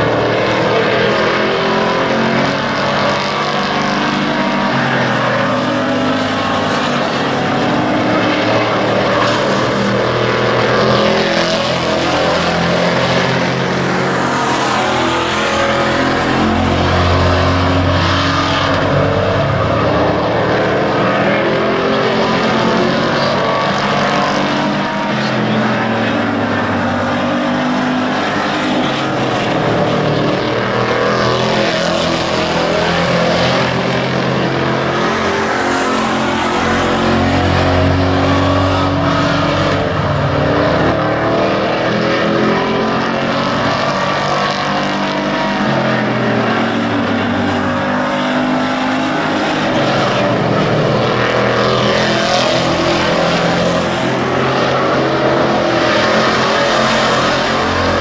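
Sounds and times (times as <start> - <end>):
race truck engines: 0.0 - 58.0.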